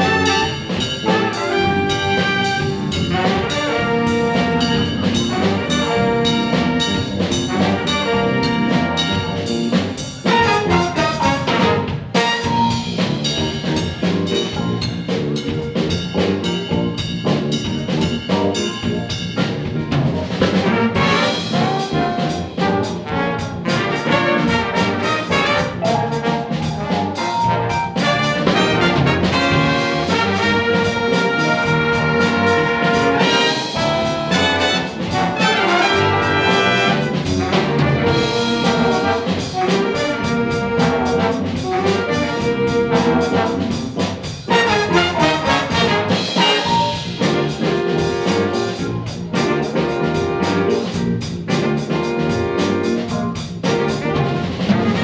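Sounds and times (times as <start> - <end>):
big band jazz playing: 0.0 - 55.0.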